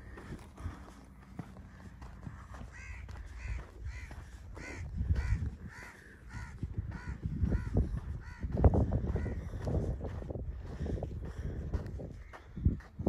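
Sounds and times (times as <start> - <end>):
crows cawing: 0.0 - 10.1, 10.7 - 13.0.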